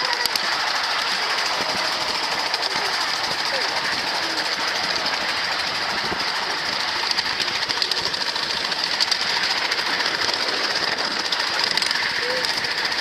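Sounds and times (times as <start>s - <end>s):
miniature train clattering on track: 0.0s - 13.0s.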